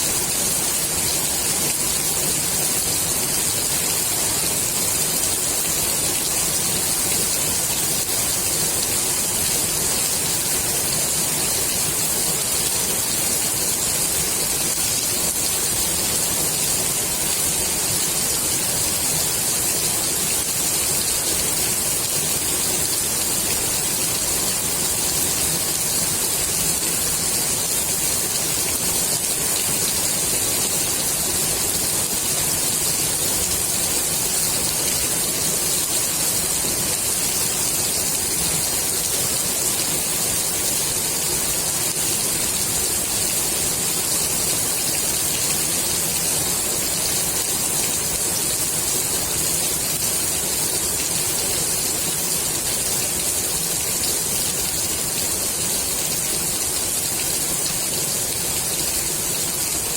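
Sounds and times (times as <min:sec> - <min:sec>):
rain falling on pool water: 0:00.0 - 0:59.9.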